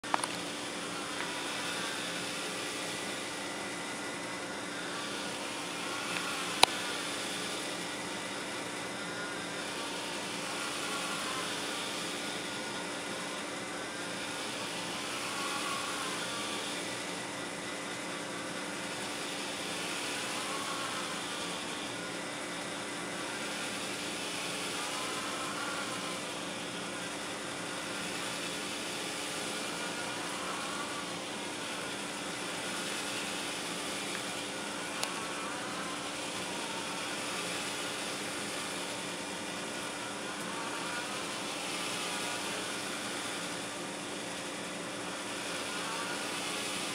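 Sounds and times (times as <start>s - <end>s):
electric motor hum: 0.0s - 46.9s
faint mechanical whine: 0.0s - 46.9s.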